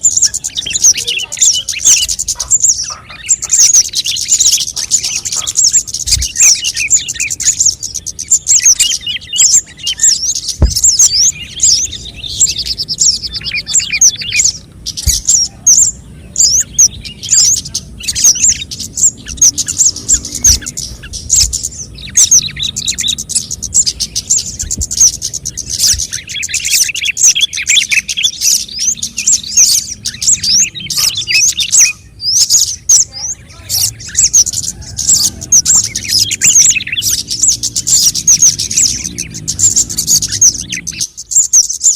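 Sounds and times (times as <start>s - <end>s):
birds chirping rapidly: 0.0s - 41.9s.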